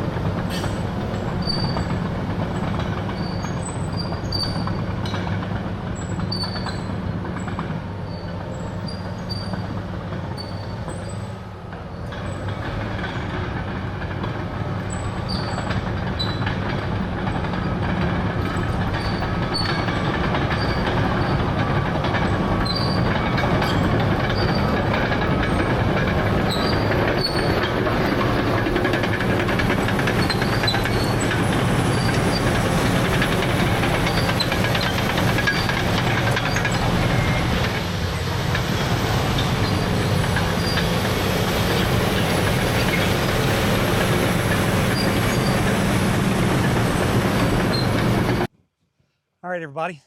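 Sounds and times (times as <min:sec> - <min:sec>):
dozer engine drone: 0:00.0 - 0:48.5
steel tracks clattering and squeaking: 0:00.0 - 0:48.5.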